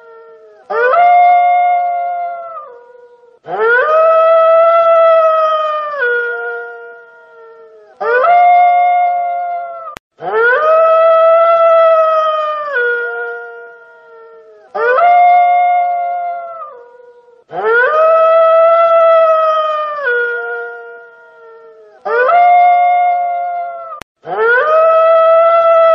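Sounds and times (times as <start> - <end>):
wolf howling: 0.0 - 25.9.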